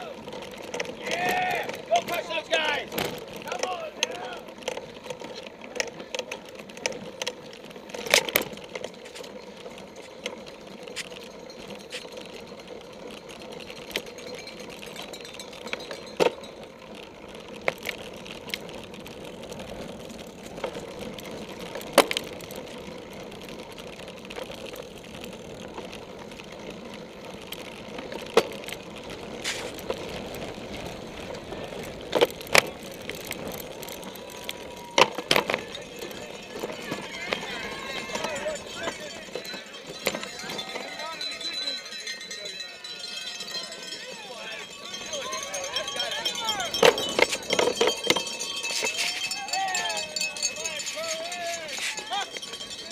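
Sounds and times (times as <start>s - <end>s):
bike knocks and rattles: 0.0s - 40.9s, 46.5s - 49.2s
bike tyre and drivetrain noise: 0.0s - 52.9s.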